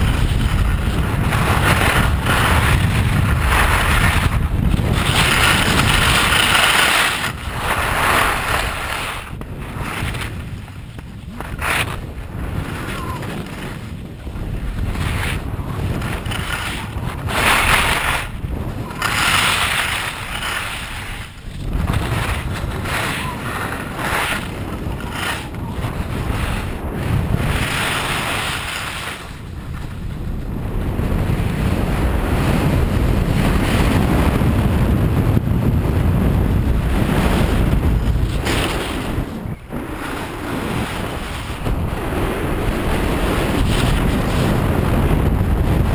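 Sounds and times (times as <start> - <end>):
skis scraping on snow: 0.0 - 45.9
wind rumbling on microphone: 0.0 - 45.9.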